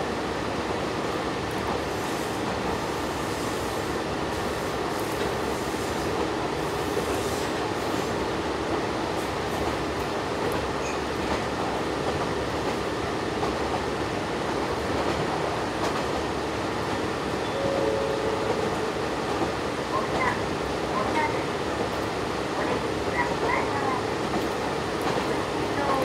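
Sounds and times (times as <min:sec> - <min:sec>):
railcar engine: 0:00.0 - 0:26.0.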